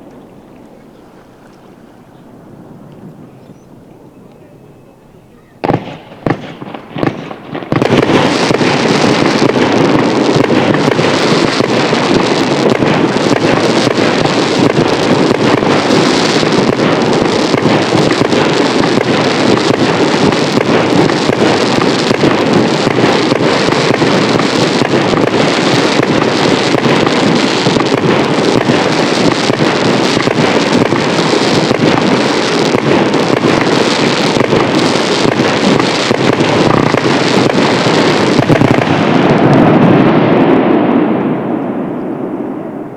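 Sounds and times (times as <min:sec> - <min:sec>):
fireworks bursting and crackling: 0:00.0 - 0:04.6, 0:05.6 - 0:42.9.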